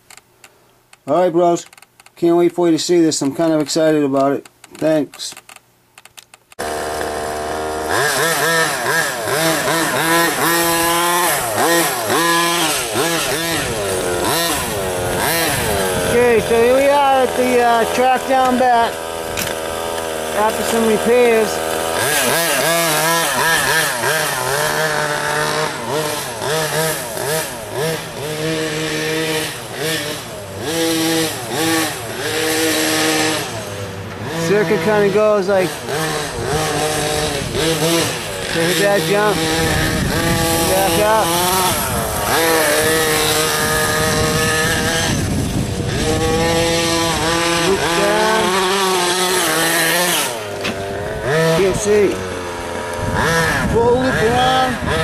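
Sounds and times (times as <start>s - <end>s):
small two-stroke engine revving: 6.6s - 55.0s.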